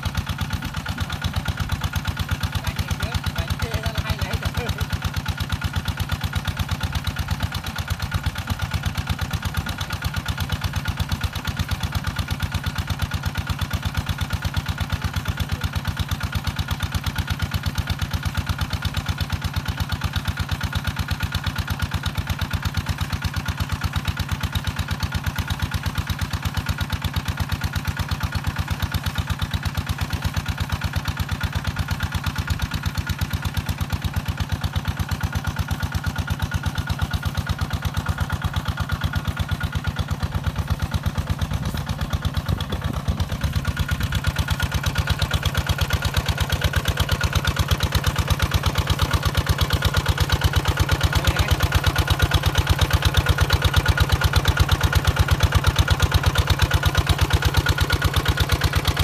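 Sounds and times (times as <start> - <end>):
small pump engine running: 0.0 - 59.0.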